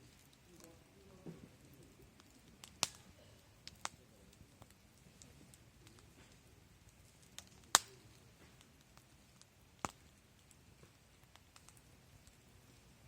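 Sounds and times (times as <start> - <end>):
burning wood popping: 0.0 - 13.0
wood fire crackling: 0.0 - 13.0.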